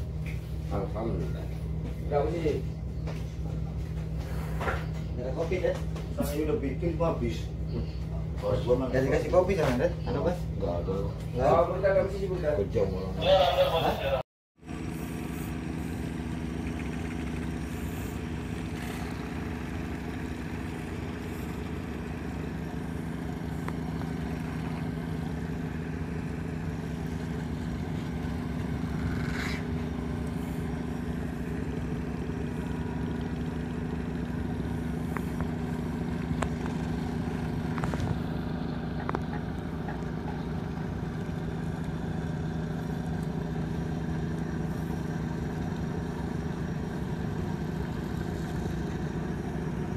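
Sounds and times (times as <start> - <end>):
ferry engines droning: 0.0 - 49.9.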